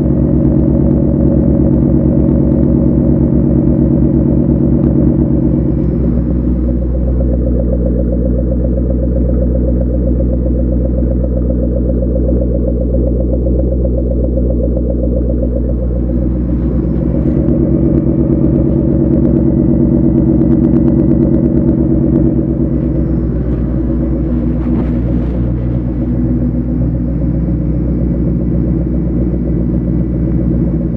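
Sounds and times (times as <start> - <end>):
car engine idling rumble: 0.0 - 30.9.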